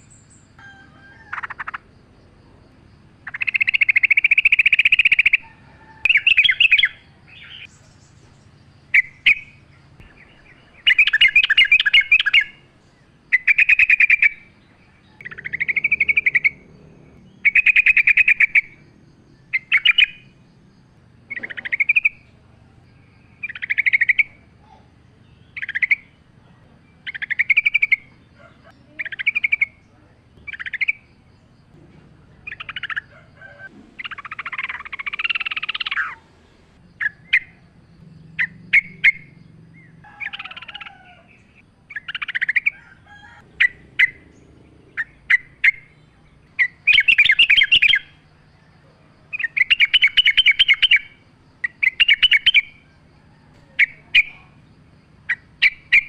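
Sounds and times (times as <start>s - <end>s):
bird chattering trills: 0.0s - 56.0s
bird singing bubbling phrases: 1.3s - 42.8s, 43.5s - 56.0s.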